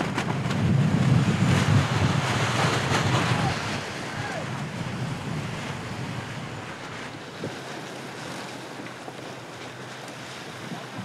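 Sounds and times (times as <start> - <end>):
water rushing around boat: 0.0 - 11.0
wind buffeting microphone: 0.0 - 11.0.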